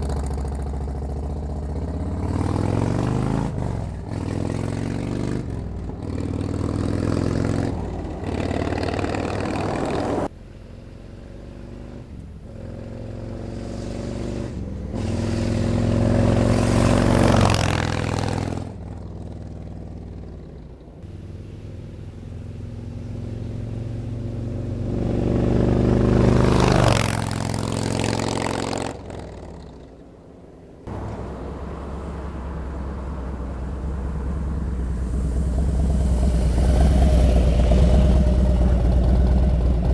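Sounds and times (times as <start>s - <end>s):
motorcycle engine revving: 0.0s - 30.1s, 30.9s - 39.9s.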